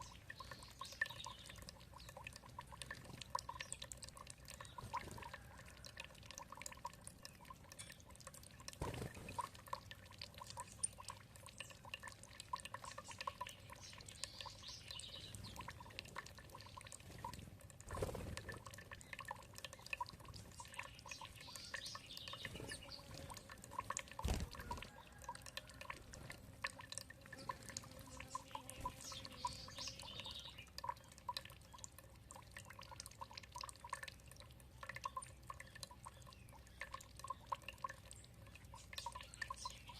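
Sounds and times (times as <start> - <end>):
water trickling and dripping: 0.0 - 39.9
water splashes: 1.6 - 35.0.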